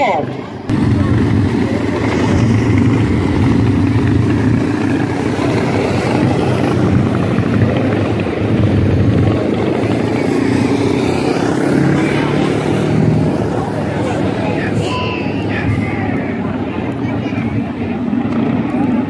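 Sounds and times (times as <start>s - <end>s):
small racing car engines: 0.7s - 19.0s.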